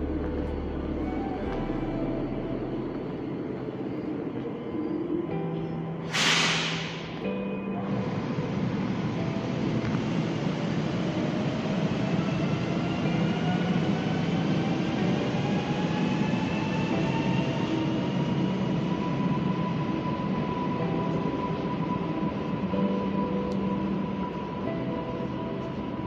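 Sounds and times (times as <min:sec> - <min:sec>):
train running noise: 0:00.0 - 0:26.0.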